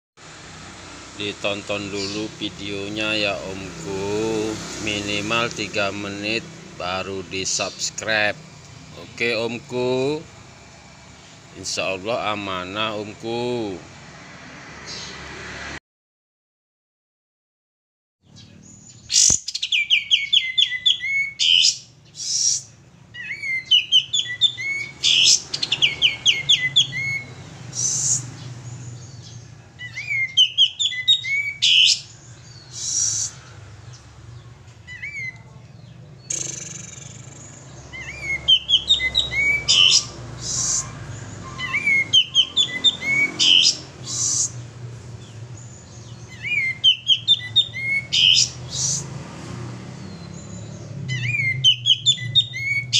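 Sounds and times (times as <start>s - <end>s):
bird singing chattering phrases: 0.6s - 14.0s, 18.2s - 52.9s.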